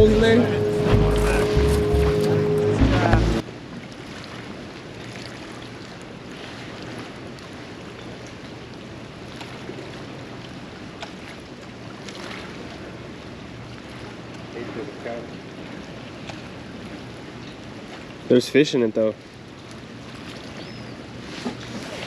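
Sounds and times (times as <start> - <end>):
wind and water wash: 0.0 - 22.0.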